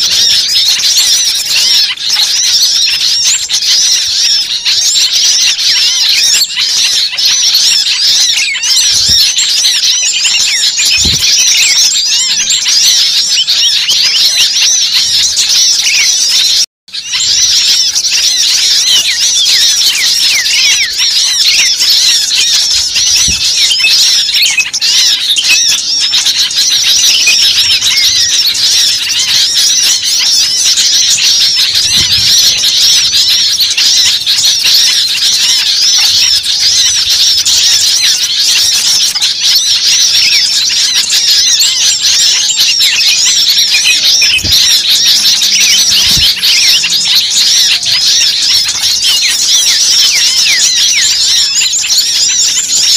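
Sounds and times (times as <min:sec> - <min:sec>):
chorus of small birds chirping: 0:00.0 - 0:52.9.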